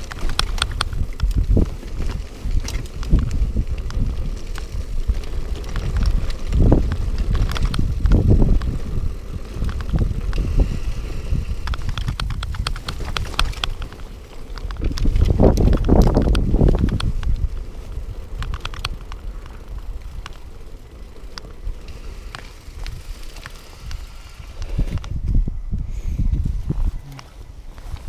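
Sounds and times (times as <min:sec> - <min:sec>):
bike rattling over bumps: 0:00.0 - 0:28.0
bike tyres rumbling on rough track: 0:00.0 - 0:28.0.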